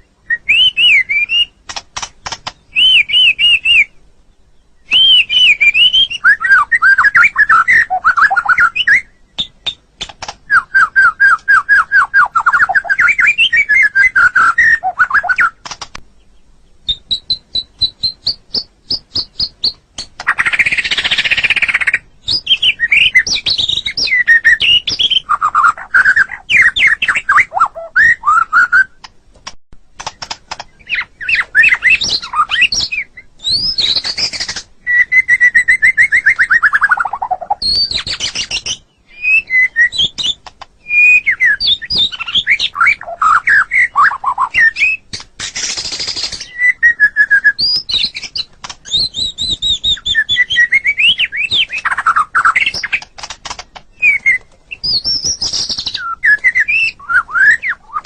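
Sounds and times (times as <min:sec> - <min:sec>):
songbird singing varied song: 0:00.0 - 0:29.2, 0:29.9 - 0:58.0.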